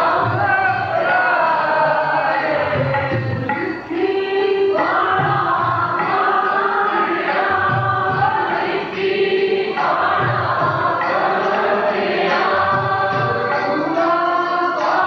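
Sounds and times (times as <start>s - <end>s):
harmonium: 0.0s - 15.0s
men singing together: 0.0s - 15.0s
tabla drumming: 0.0s - 15.0s.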